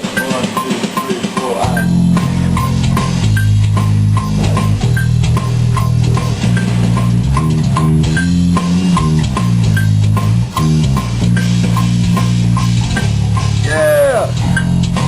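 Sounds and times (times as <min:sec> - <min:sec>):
click track ticking: 0:00.0 - 0:13.7, 0:14.4 - 0:15.0
heavy metal guitar and bass riff: 0:00.0 - 0:15.0.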